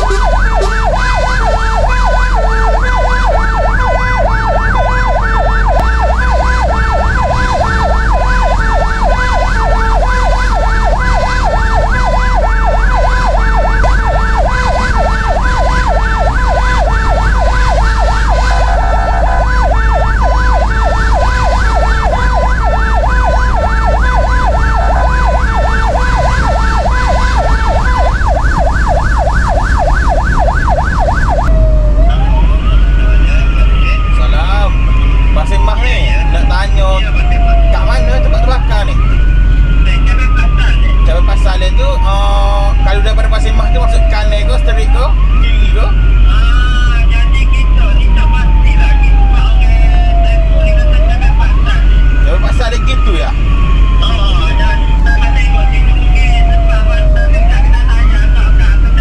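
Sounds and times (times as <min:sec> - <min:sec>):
fire engine siren warbling: 0:00.0 - 0:59.0.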